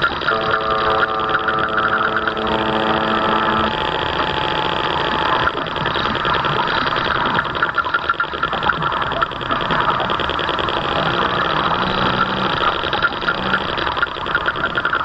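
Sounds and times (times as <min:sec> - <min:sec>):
model boat motor humming: 0:00.0 - 0:15.0
steady held tones: 0:00.0 - 0:15.0.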